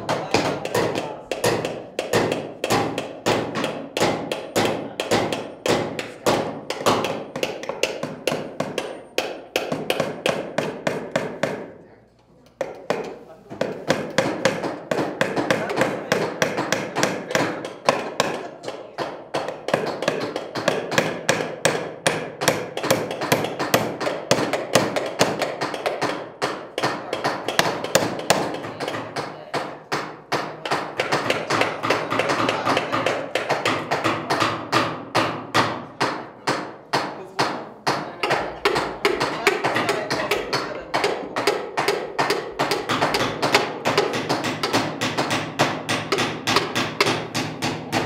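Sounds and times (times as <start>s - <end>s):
hammers driving nails into wood: 0.0s - 11.8s, 12.6s - 48.0s.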